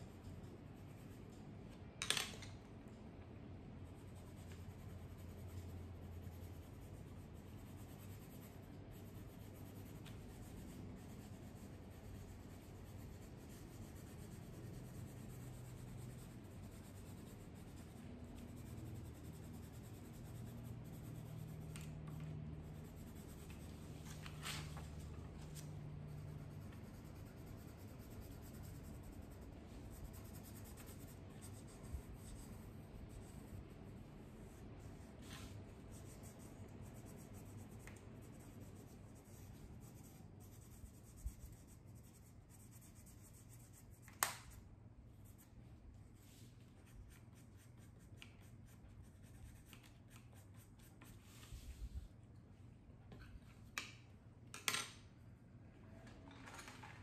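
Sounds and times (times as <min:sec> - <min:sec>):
pencil scratching on paper: 0:03.8 - 0:43.9, 0:46.2 - 0:51.7.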